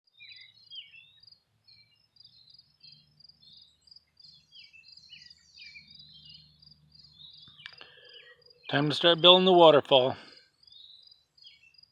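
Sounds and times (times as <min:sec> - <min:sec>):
birds chirping: 0:00.1 - 0:11.9
insect chirping rhythmically: 0:00.2 - 0:09.4, 0:10.3 - 0:11.9.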